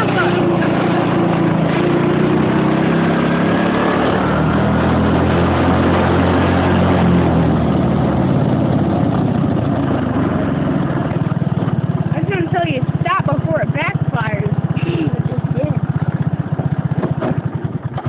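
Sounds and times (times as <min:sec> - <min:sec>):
go-kart engine running: 0:00.0 - 0:18.0.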